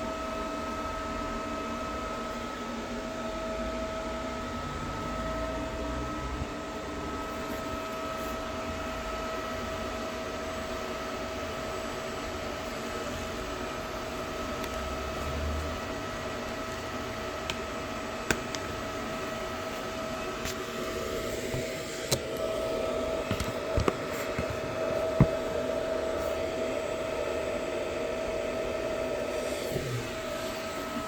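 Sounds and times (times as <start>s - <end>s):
welder hiss and whine: 0.0s - 31.0s.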